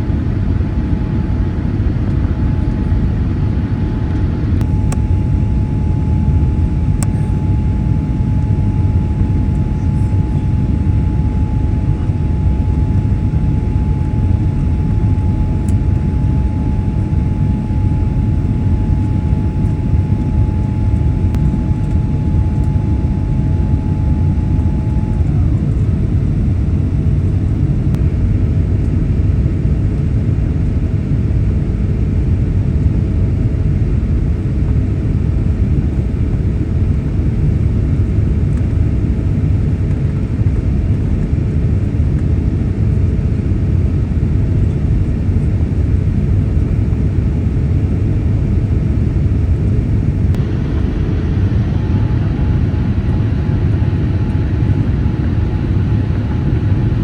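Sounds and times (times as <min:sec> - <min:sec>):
airliner cabin rumble: 0:00.0 - 0:57.0
steady whine: 0:00.0 - 0:57.0.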